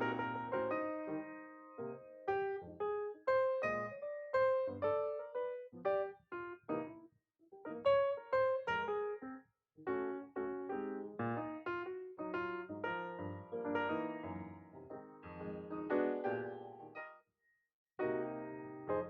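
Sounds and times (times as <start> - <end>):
piano melody: 0.0 - 7.0, 7.6 - 17.2, 18.0 - 19.0.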